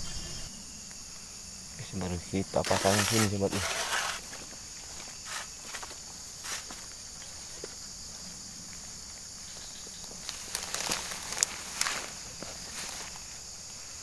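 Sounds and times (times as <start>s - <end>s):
high-pitched insect chorus: 0.0s - 14.0s
footsteps rustling through grass: 2.7s - 14.0s.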